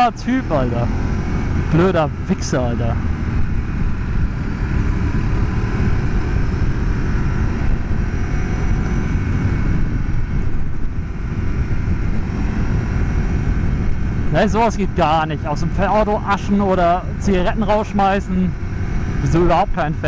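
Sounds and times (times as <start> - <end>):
motorcycle engine cruising: 0.0 - 20.0
road noise: 0.0 - 20.0
wind rush: 0.0 - 20.0.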